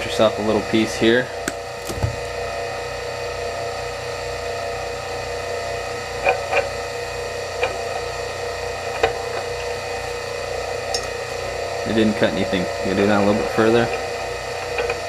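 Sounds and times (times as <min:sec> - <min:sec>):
motor and gear hum: 0:00.0 - 0:03.0, 0:03.8 - 0:15.0.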